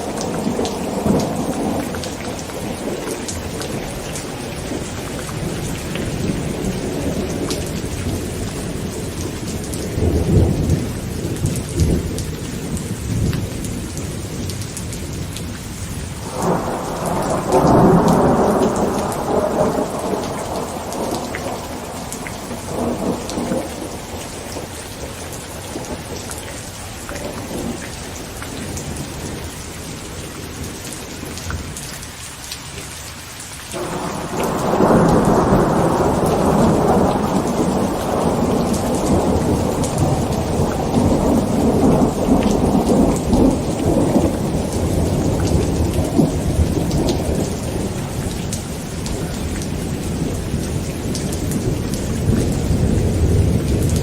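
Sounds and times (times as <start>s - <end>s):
rolling thunder: 0.0s - 31.8s, 33.8s - 54.0s
heavy rain on a tent: 0.0s - 54.0s.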